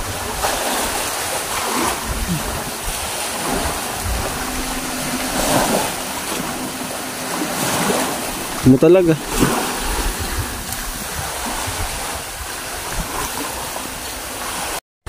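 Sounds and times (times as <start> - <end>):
low rumble: 0.0 - 12.7
rushing water: 0.0 - 14.8
wind: 0.0 - 14.8.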